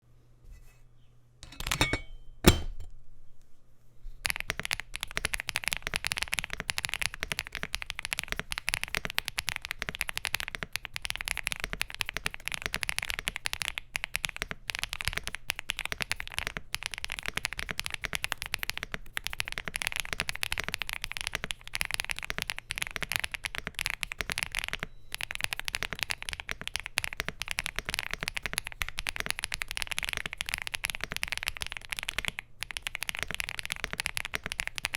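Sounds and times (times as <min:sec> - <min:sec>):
mechanical keyboard typing: 0:04.3 - 0:34.9.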